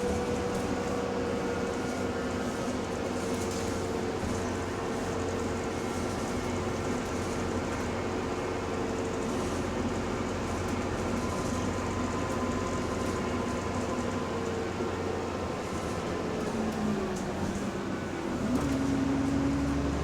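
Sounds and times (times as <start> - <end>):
bus drivetrain and road rumble: 0.0 - 20.0.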